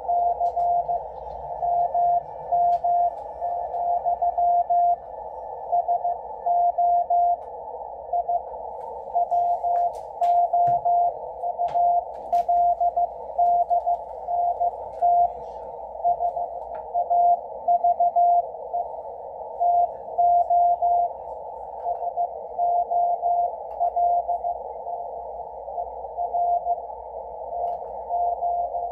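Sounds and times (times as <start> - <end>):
morse code beeping tone: 0.0 - 7.4, 8.0 - 21.2, 21.8 - 28.9.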